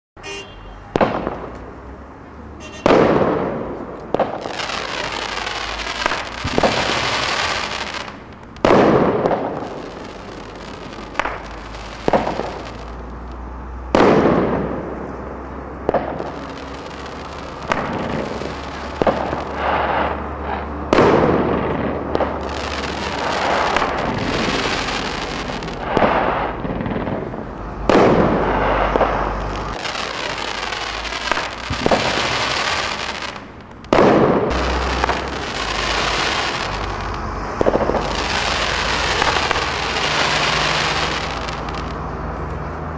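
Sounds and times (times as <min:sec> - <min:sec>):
firework bangs: 0:00.2 - 0:02.0, 0:02.6 - 0:42.5
firework crackling fizz: 0:02.8 - 0:15.1, 0:15.7 - 0:42.0.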